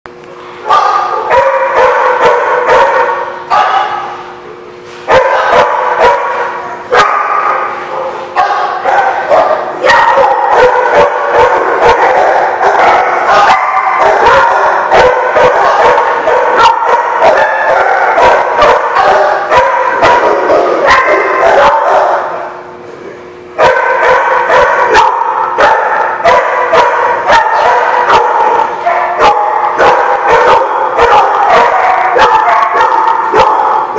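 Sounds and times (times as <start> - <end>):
dogs barking and yipping: 0.7 - 22.7, 23.6 - 33.9.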